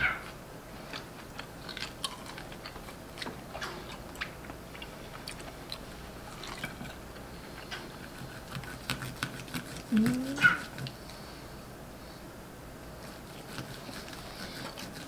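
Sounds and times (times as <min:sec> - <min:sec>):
chewing and gnawing on bone: 0:00.0 - 0:11.3, 0:12.9 - 0:15.0.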